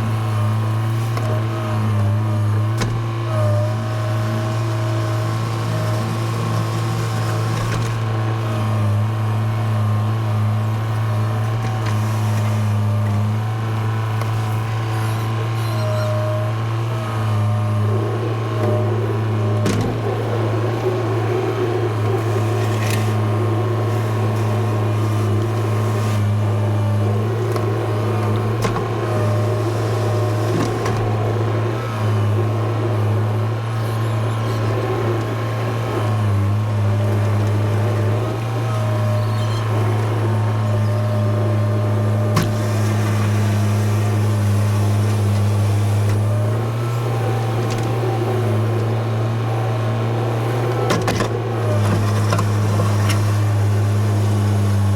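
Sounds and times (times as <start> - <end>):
engine running steadily: 0.0 - 54.9.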